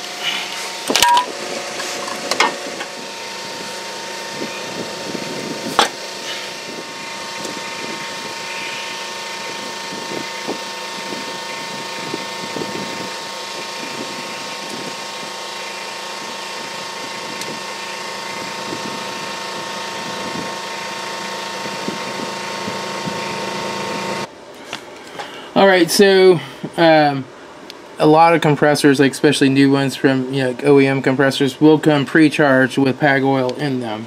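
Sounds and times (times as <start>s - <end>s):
mechanical hum with whine: 0.0s - 34.0s.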